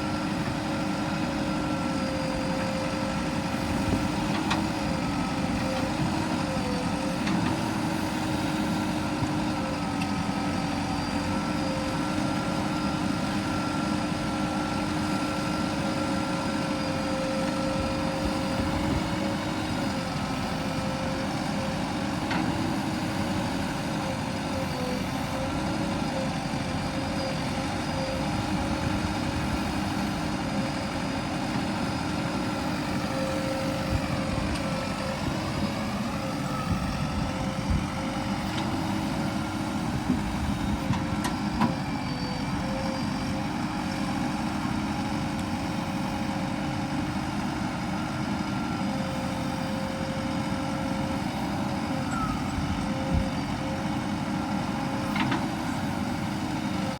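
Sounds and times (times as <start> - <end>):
heavy diesel engine idling: 0.0 - 56.9.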